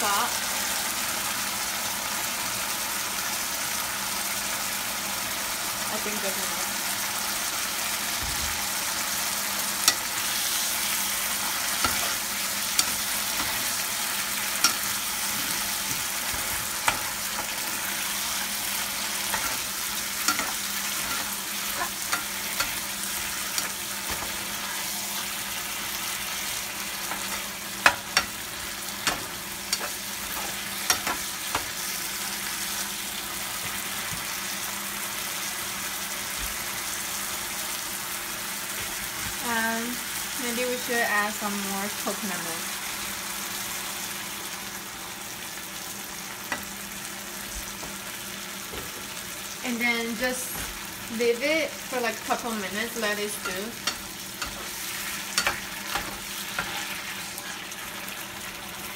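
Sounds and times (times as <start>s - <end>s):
food sizzling in a frying pan: 0.0s - 58.9s.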